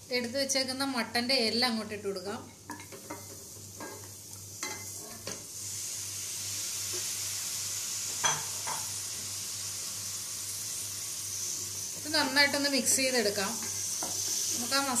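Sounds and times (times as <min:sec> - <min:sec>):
meat sizzling in hot oil: 0:02.6 - 0:15.0.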